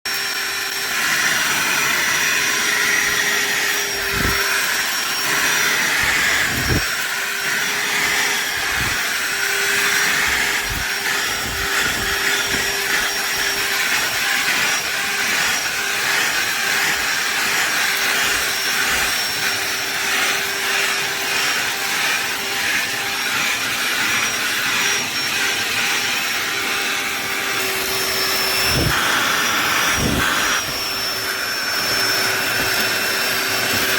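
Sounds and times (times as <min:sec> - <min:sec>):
cordless vacuum cleaner running: 0:00.1 - 0:33.9.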